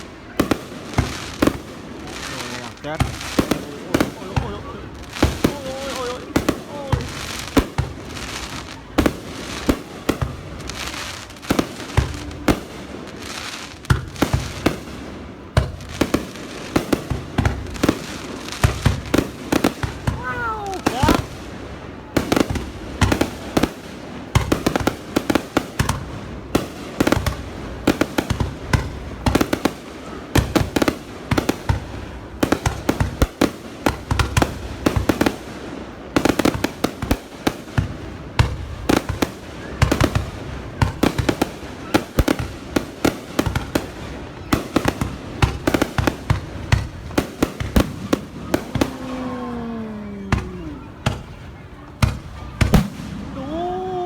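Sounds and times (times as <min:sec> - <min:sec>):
fireworks banging: 0:00.0 - 0:53.8.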